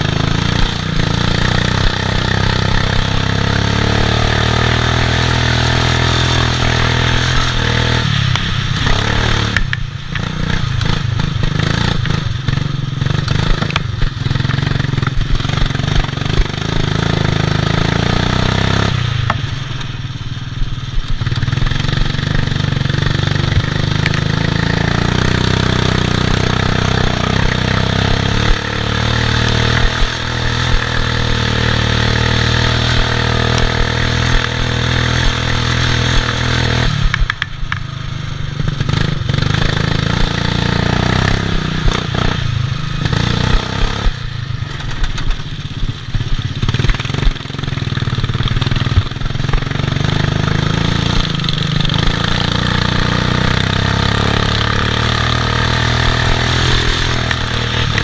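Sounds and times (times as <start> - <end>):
ride-on mower engine revving: 0.0 - 58.0.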